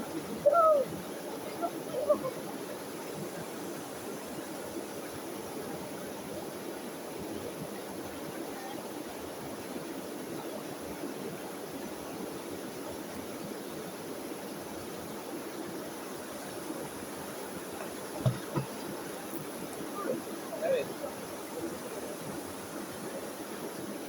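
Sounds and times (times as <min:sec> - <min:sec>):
small river flowing: 0:00.0 - 0:24.0.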